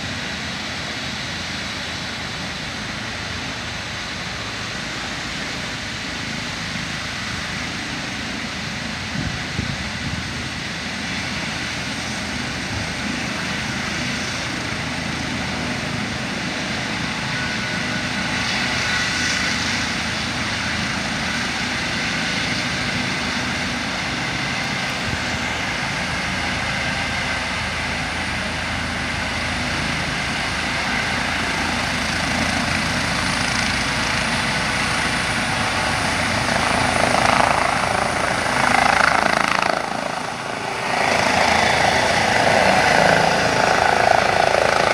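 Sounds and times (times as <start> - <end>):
helicopter rotor noise: 0.0 - 44.9
high turbine whine: 0.0 - 44.9.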